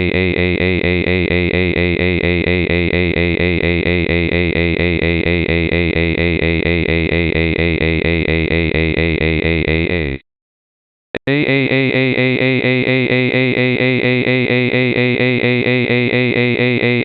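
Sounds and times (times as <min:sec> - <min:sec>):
synthesized voice humming: 0:00.0 - 0:10.3, 0:11.2 - 0:17.0.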